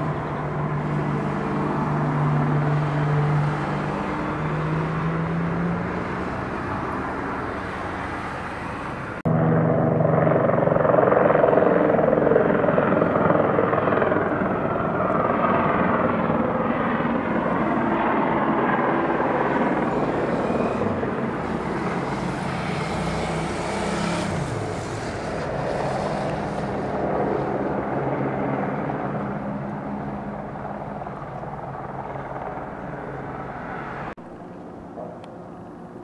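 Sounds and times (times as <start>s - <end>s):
helicopter hovering: 0.0s - 36.0s.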